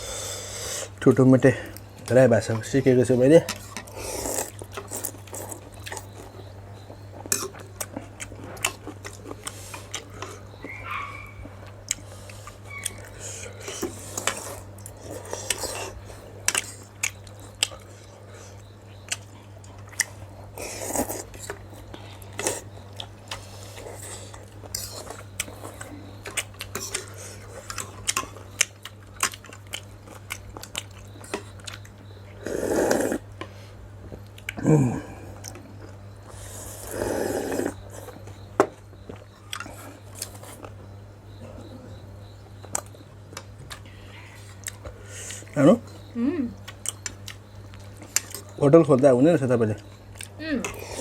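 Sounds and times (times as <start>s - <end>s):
steady low hum: 0.0s - 51.0s
chewing: 3.5s - 48.6s, 49.8s - 51.0s.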